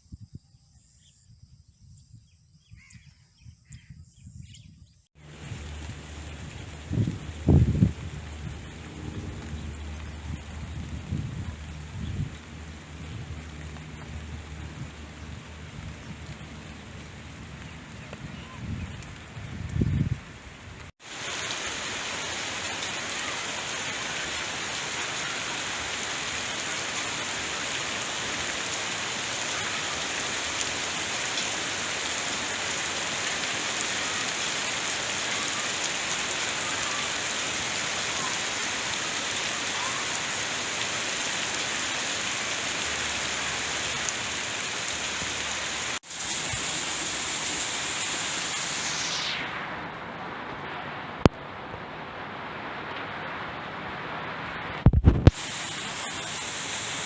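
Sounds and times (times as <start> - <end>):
rain falling on a tent: 5.2 - 57.0.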